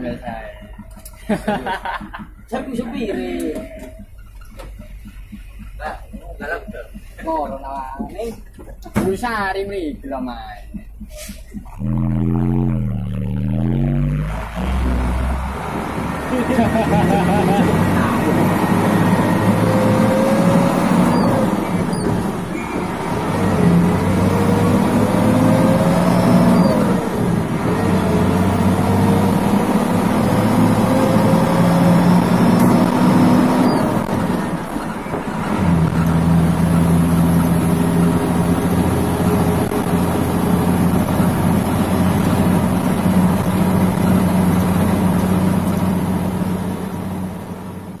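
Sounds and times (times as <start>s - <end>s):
truck diesel engine under load: 0.0s - 48.0s.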